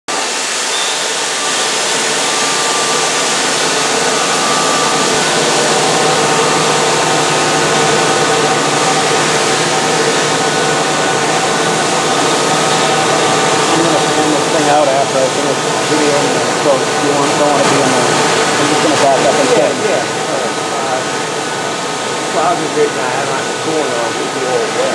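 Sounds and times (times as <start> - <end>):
milling machine cutting: 0.1 - 24.9
faint whining tones: 0.7 - 24.9.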